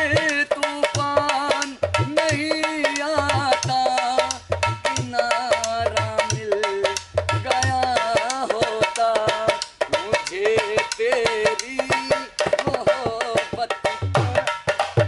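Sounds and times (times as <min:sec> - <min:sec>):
hand drum fast rhythm: 0:00.0 - 0:15.0.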